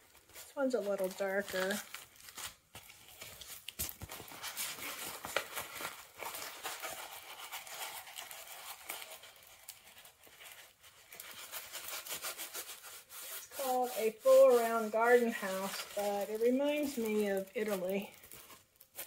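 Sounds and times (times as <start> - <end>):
paper and plastic crinkling: 0.0 - 19.0.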